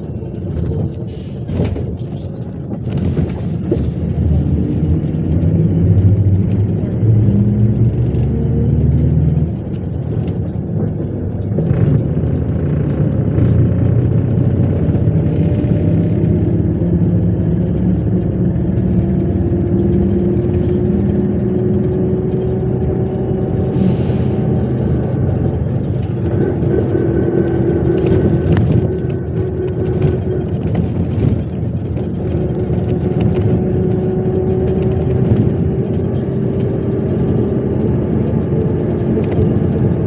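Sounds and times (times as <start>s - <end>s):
bus diesel engine: 0.0s - 40.0s
rising drivetrain whine: 0.0s - 40.0s.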